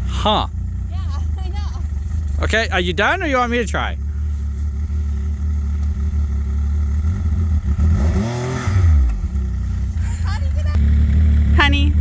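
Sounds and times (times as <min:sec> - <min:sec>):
snowmobile engine idling and revving: 0:00.0 - 0:12.0.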